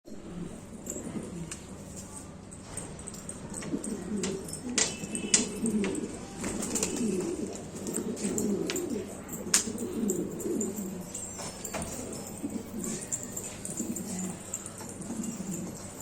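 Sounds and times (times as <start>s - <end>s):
pigeons cooing: 0.2s - 1.6s, 3.3s - 16.0s.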